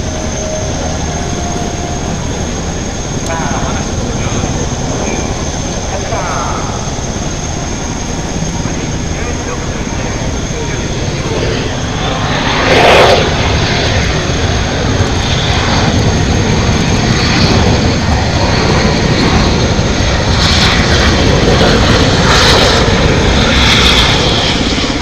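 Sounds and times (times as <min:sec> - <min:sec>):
jet engines taxiing: 0:00.0 - 0:25.0.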